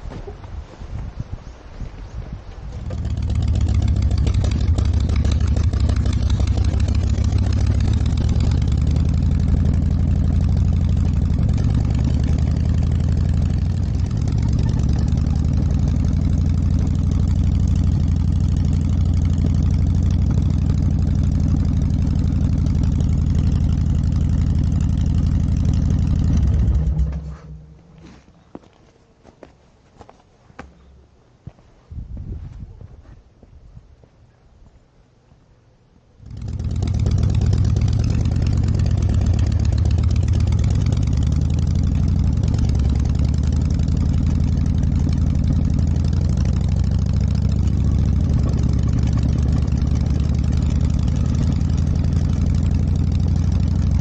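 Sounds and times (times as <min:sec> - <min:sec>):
motorcycle engine starting and idling: 0:02.7 - 0:28.2, 0:36.2 - 0:54.0.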